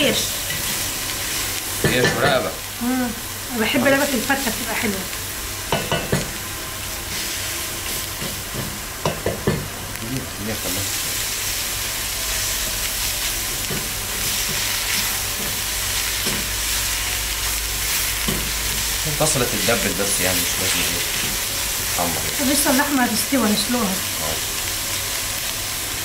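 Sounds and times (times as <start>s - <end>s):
onion sizzling in a pot: 0.0s - 26.0s.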